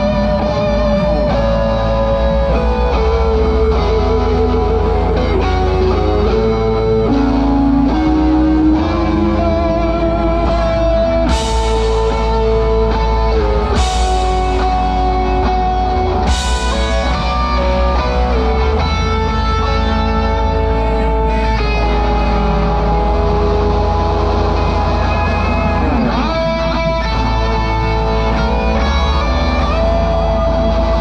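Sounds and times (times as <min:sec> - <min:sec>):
bass and drums: 0:00.0 - 0:31.0
electric guitar lines: 0:00.0 - 0:31.0.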